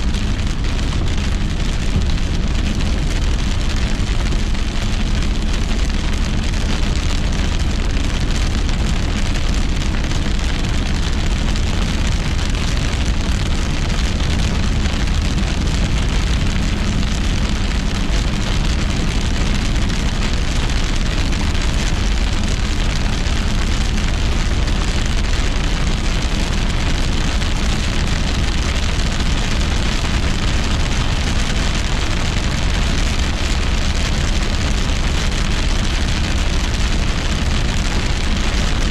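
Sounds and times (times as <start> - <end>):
heavy rain on a car roof: 0.0 - 38.9
tyre and road noise: 0.0 - 38.9.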